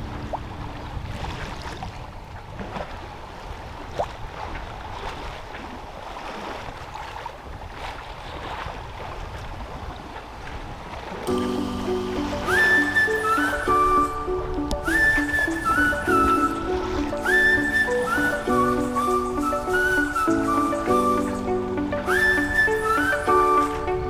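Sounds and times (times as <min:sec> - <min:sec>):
water splashing along hull: 0:00.0 - 0:24.0
wind on microphone: 0:00.0 - 0:24.0.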